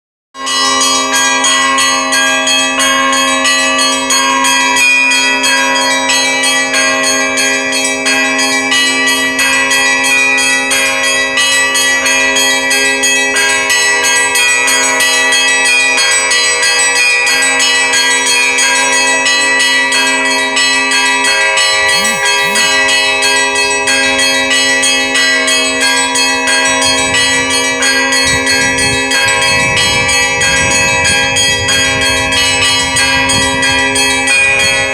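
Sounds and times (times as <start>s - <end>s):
small church bells ringing: 0.4s - 23.0s, 23.6s - 34.9s.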